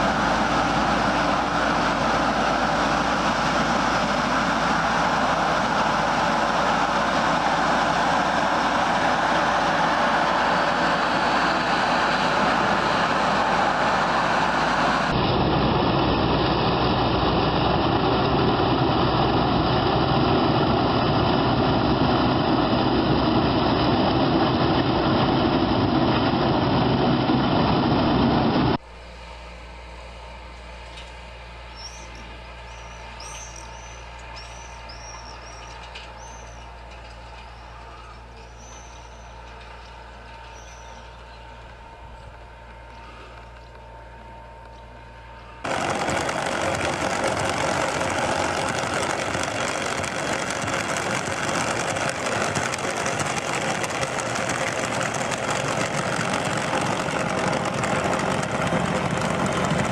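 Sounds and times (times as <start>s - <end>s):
loud heavy machinery noise: 0.0s - 28.8s, 30.8s - 59.9s
low engine hum: 0.0s - 59.9s.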